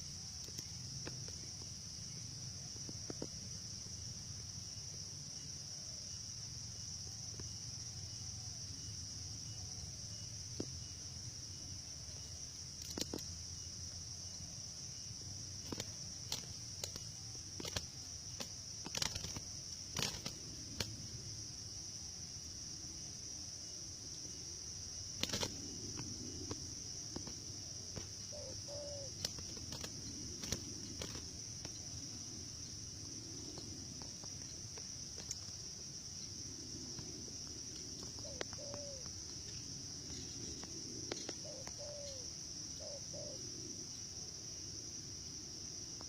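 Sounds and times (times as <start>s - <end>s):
insect chorus: 0.0s - 46.0s.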